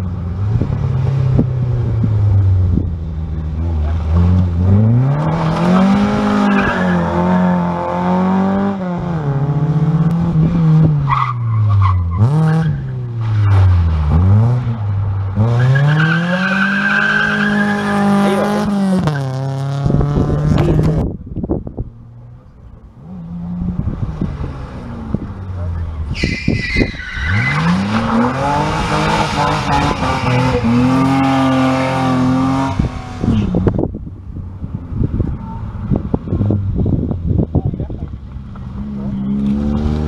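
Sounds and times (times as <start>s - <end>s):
rally car engines revving: 0.0s - 40.0s.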